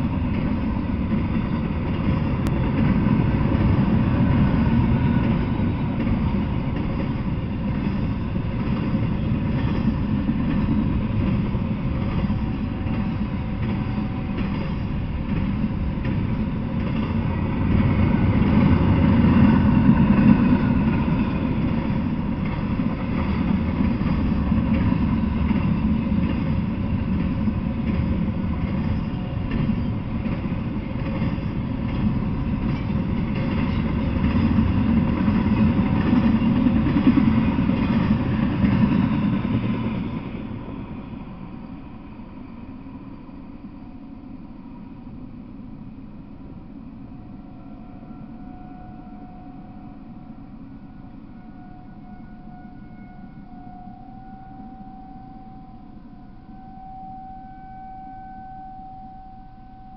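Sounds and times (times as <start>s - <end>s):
freight train wheels rumbling on rails: 0.0s - 56.7s.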